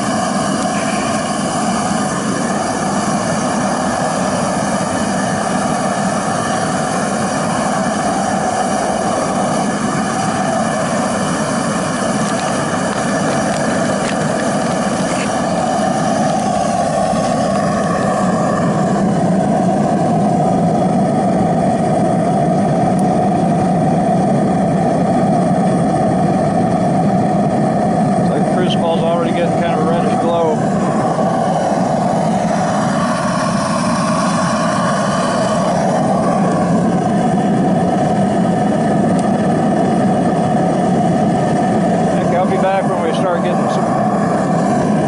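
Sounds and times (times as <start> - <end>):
oil burner flame roaring: 0.0 - 45.0.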